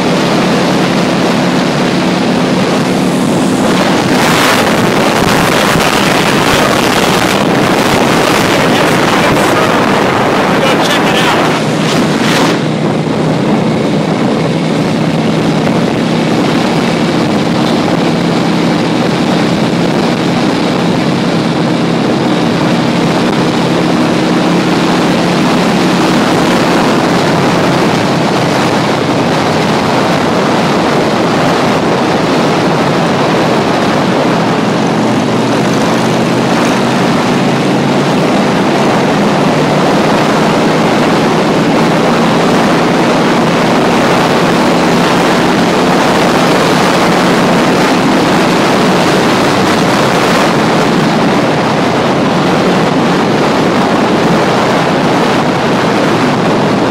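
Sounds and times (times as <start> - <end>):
motorcycle engine running: 0.0 - 56.9
wind rushing on microphone: 0.0 - 56.9.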